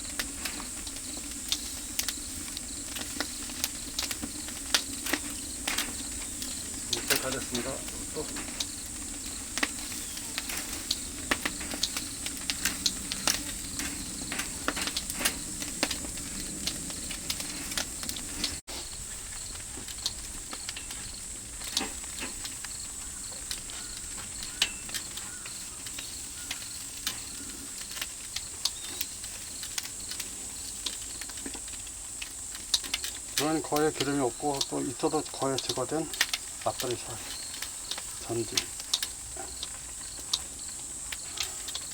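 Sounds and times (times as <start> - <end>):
fat sizzling on a grill: 0.0 - 41.9
fire crackling and popping: 0.0 - 41.9.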